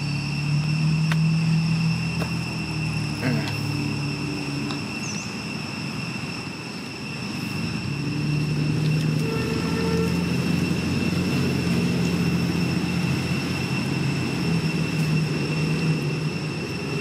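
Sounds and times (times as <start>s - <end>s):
high-pitched insect drone: 0.0s - 17.0s
vehicle engine humming: 0.0s - 17.0s.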